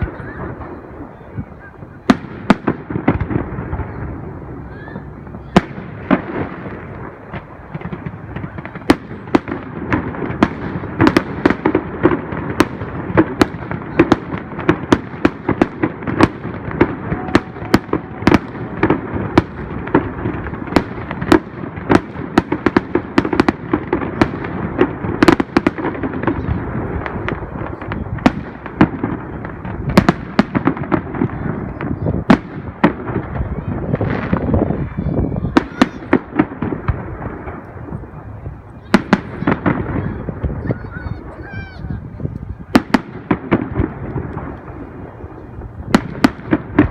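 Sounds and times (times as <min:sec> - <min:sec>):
fireworks bangs and cracks: 0:00.0 - 0:46.9.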